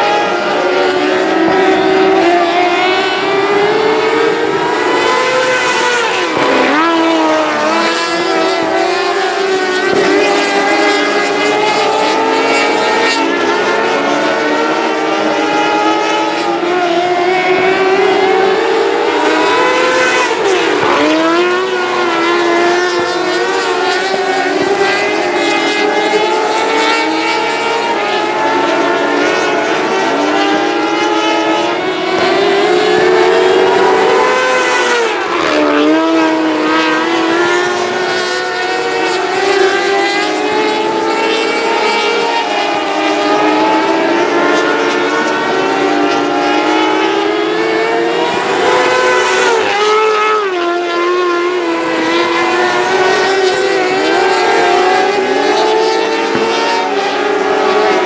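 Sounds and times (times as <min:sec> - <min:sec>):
cars passing close by: 0:00.0 - 0:58.0
racing car engines at high revs: 0:00.0 - 0:58.0.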